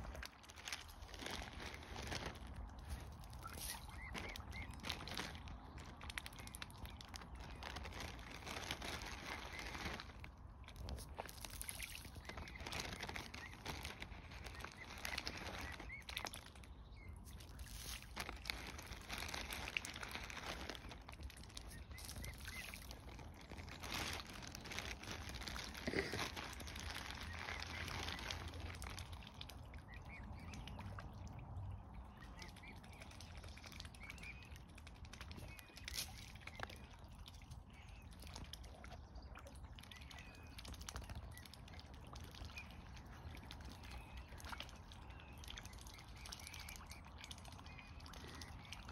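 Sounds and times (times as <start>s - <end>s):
splashing in water: 0.0s - 48.9s.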